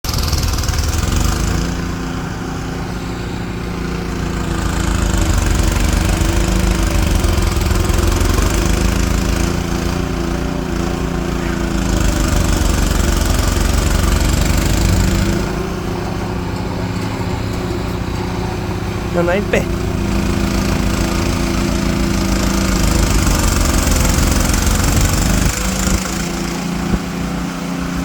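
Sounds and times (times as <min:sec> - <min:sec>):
snowblower engine running: 0:00.0 - 0:28.0.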